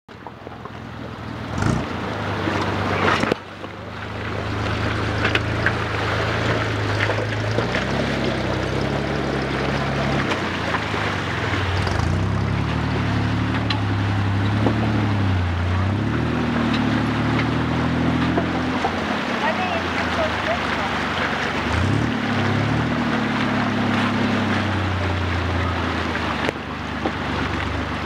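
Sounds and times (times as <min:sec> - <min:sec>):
engine running at low speed: 0:00.1 - 0:28.0
rushing splashing water: 0:00.1 - 0:28.0.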